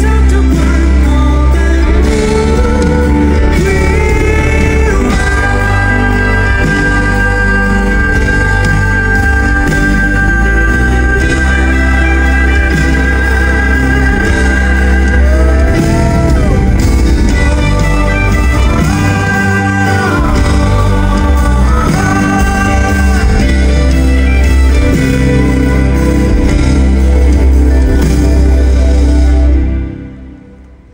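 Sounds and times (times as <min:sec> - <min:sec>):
live band music with heavy bass: 0:00.0 - 0:30.9.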